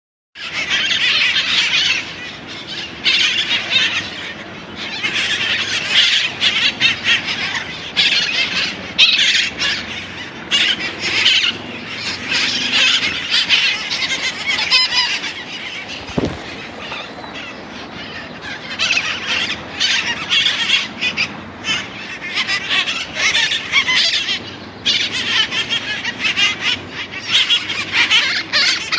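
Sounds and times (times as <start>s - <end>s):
parakeets screeching: 0.4s - 28.9s.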